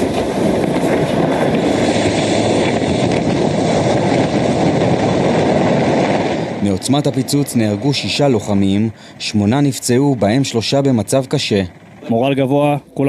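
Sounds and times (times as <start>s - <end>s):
helicopter roar: 0.0s - 13.0s.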